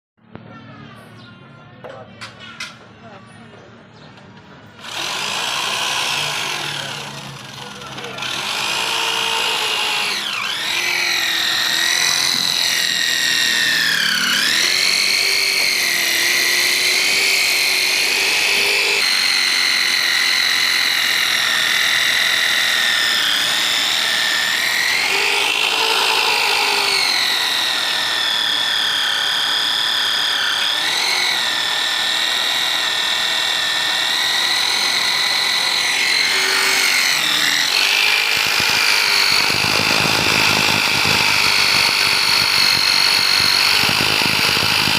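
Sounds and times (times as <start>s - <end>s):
electric drill boring metal: 4.8s - 44.9s.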